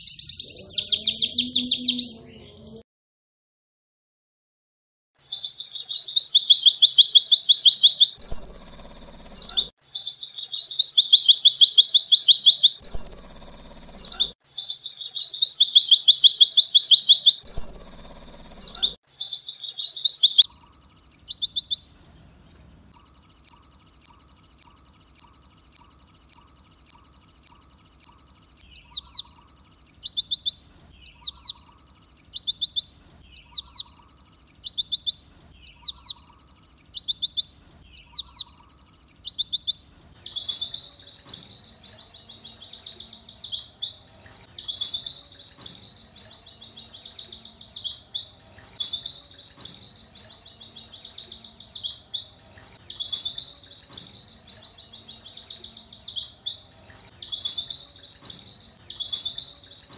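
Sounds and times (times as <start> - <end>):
bird singing fast trills: 0.0 - 2.8, 5.2 - 59.9.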